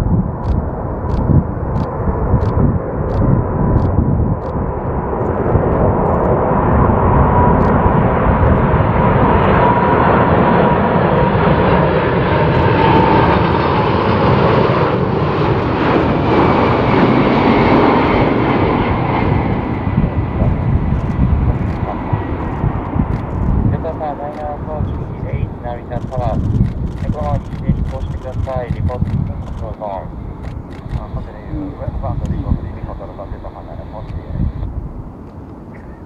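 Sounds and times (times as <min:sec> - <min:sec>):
jet engines rumbling and whining: 0:00.0 - 0:36.0.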